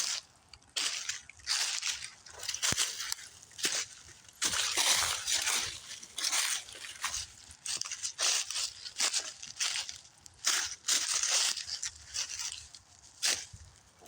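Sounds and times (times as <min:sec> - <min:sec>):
crunching and rustling footsteps: 0:00.0 - 0:14.0.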